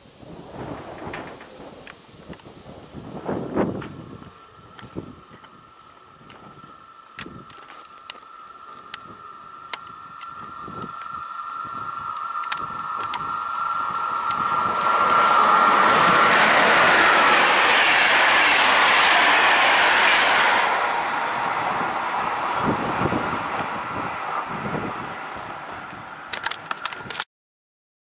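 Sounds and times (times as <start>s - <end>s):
train high whine: 0.0s - 27.2s
train wheel and rail rush: 0.0s - 27.2s.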